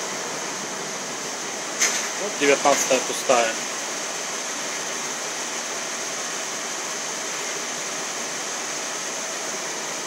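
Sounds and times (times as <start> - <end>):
washing machines and dryers running: 0.0 - 10.0.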